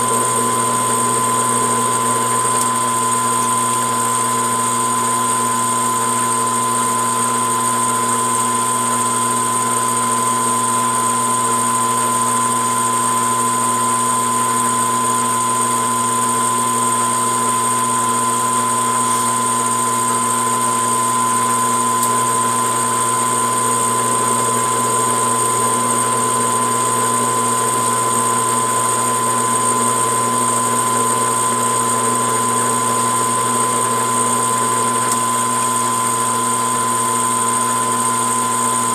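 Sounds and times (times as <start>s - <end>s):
metal lathe humming and whining: 0.0s - 38.9s.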